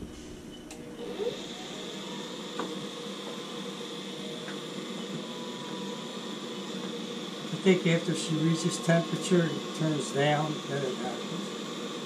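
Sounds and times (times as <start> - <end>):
boiler fan hum with whine: 0.0 - 12.0.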